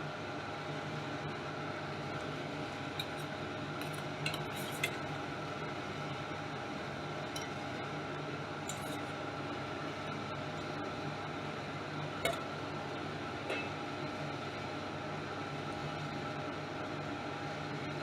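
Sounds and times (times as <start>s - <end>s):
range hood fan humming: 0.0s - 18.0s.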